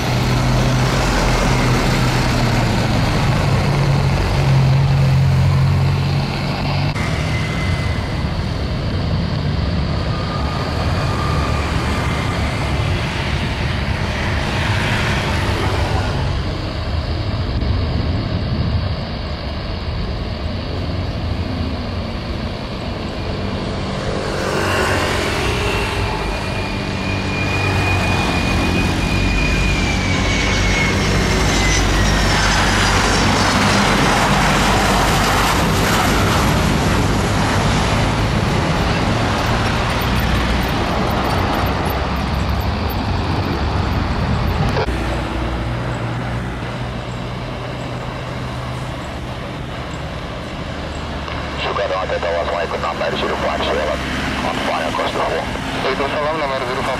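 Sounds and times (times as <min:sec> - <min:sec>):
jet airliner passing low: 0:00.0 - 0:56.9.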